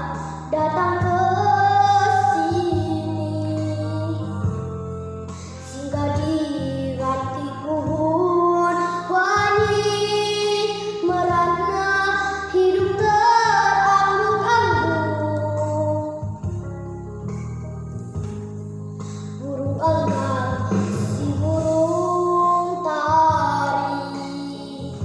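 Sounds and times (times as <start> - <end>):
girl singing: 0.0 - 4.8, 5.6 - 16.6, 19.1 - 25.0
instrumental backing track: 0.0 - 25.0.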